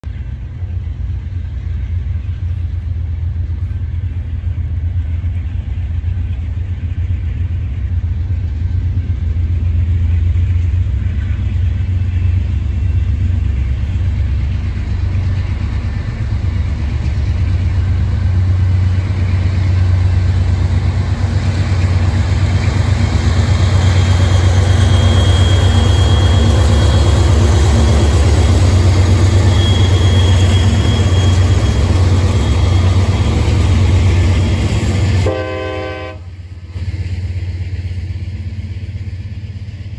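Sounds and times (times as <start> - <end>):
diesel locomotive engines rumbling: 0.0 - 39.9.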